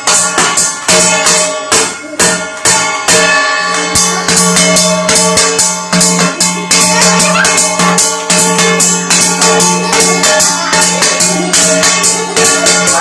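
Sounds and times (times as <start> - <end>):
metal vessels beaten rhythmically: 0.0 - 13.0.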